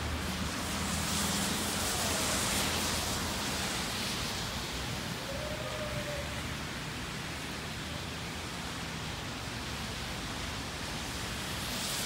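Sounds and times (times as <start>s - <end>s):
rain on flooded street: 0.0s - 12.0s.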